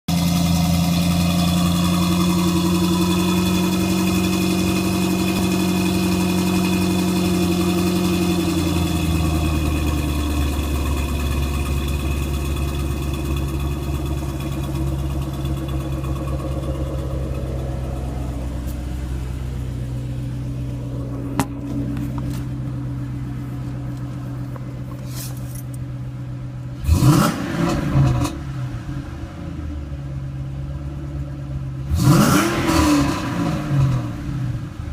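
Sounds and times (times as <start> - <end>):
car engine idling: 0.1 - 34.9
car engine revving: 0.2 - 30.0, 31.8 - 34.7.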